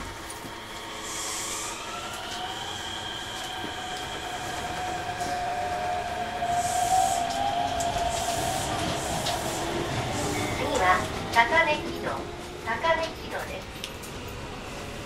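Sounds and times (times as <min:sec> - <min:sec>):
electric train motor whine: 0:00.0 - 0:12.6.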